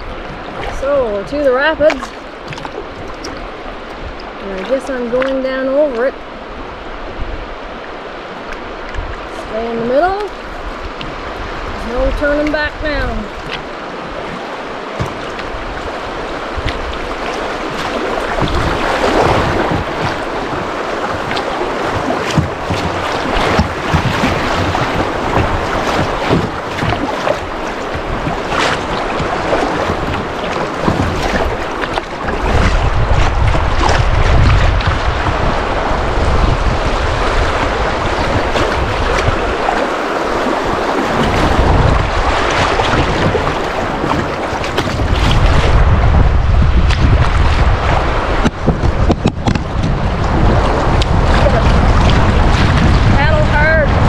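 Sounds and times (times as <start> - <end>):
rushing river rapid water: 0.0 - 54.0
small water splashes: 0.0 - 54.0
wind buffeting microphone: 0.0 - 54.0.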